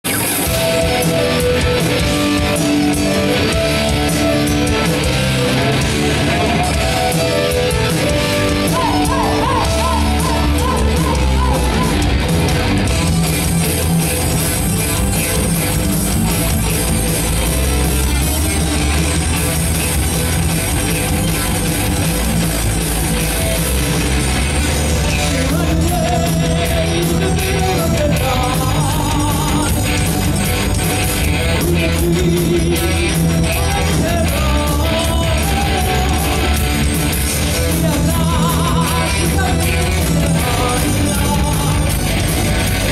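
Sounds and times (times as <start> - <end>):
distorted electric guitars: 0.0 - 42.9
drums: 0.0 - 42.9
heavy metal band playing live: 0.0 - 42.9.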